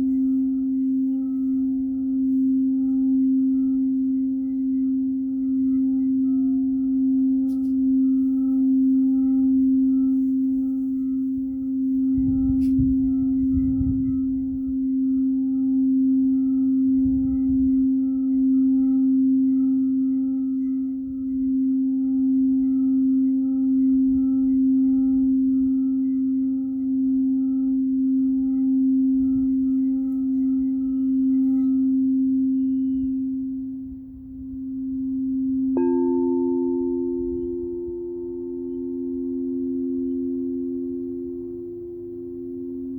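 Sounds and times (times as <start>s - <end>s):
singing bowl low tone: 0.0s - 42.9s.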